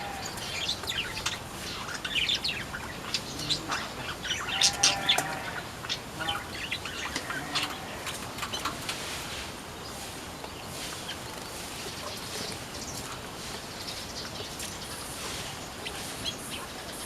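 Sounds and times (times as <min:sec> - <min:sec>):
small birds chirping and twittering: 0:00.0 - 0:17.0.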